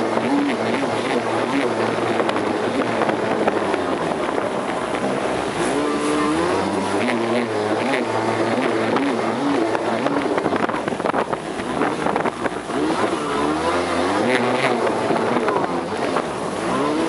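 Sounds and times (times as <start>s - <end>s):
jet ski engine running: 0.0s - 17.0s
water rushing: 0.0s - 17.0s
wind buffeting microphone: 0.0s - 17.0s.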